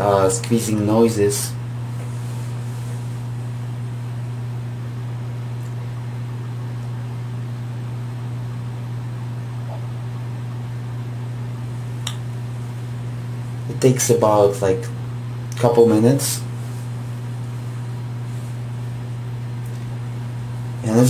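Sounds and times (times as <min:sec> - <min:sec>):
dvd drive humming: 0:00.0 - 0:21.0.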